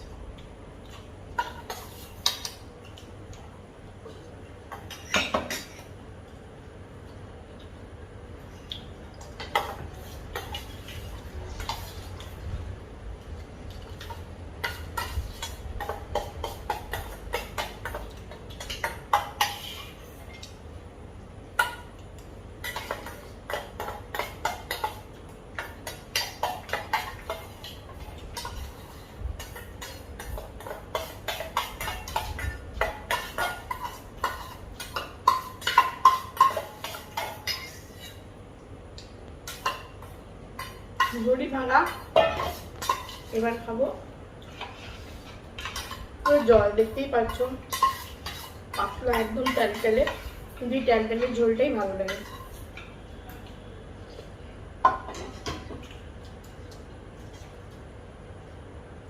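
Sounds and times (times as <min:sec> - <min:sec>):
utensils clinking against a plate: 0:00.8 - 0:03.1, 0:04.0 - 0:06.0, 0:08.6 - 0:12.4, 0:13.7 - 0:20.6, 0:21.6 - 0:38.3, 0:39.0 - 0:57.8.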